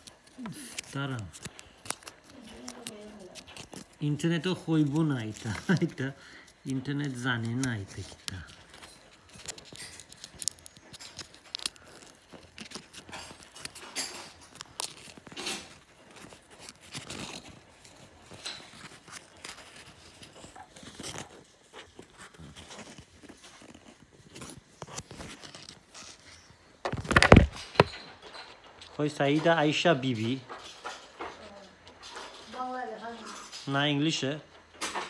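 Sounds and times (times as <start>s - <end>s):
paper crinkling and rustling: 0.0s - 35.0s.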